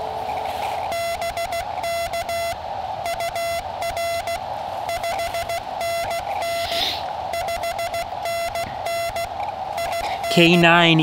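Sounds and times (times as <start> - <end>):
receiver hiss: 0.0 - 11.0
morse code tone: 0.9 - 11.0.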